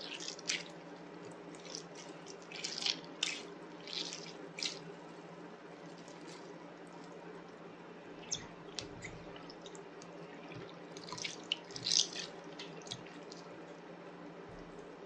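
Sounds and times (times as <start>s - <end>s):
slime squelching: 0.0s - 7.2s, 8.0s - 13.5s.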